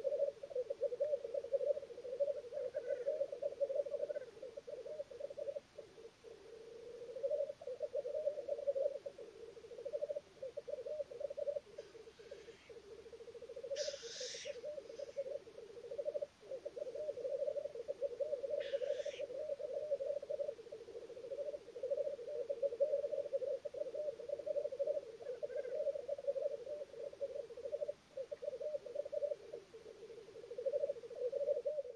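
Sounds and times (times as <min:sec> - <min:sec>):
black grouse bubbling song: 0:00.0 - 0:31.9
grouse hissing calls: 0:00.0 - 0:31.9.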